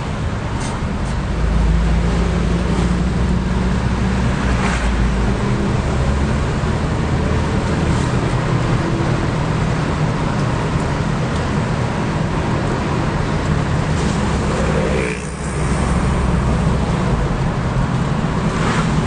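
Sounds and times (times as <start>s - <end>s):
car engine and tyres rumble: 0.0s - 19.0s.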